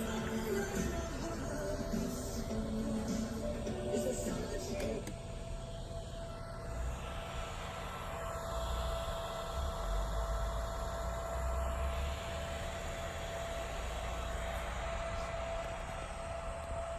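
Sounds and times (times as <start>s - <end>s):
radio static hiss: 0.0s - 16.9s.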